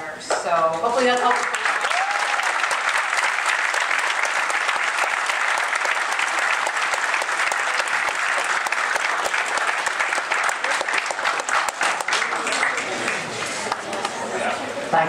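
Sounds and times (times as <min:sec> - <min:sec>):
audience applauding: 0:01.1 - 0:14.5
audience cheering: 0:01.3 - 0:13.8.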